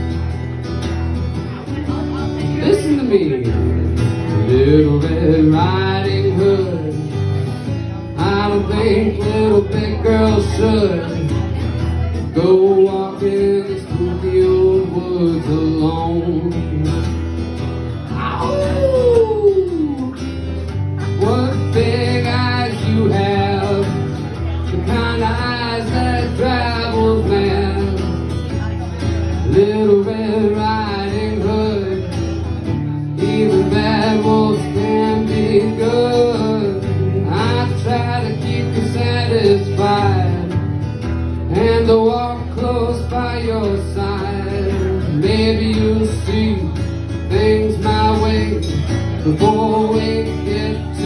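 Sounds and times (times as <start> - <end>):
acoustic guitar strumming: 0.0 - 51.0
man singing wordless melody: 2.4 - 17.2, 21.1 - 51.0.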